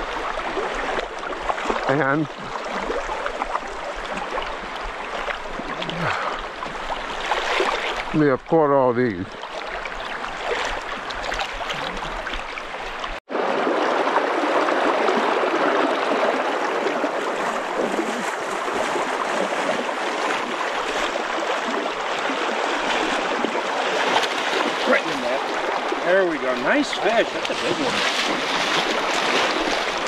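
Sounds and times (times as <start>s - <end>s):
river current rushing: 0.0s - 8.2s, 9.3s - 30.0s.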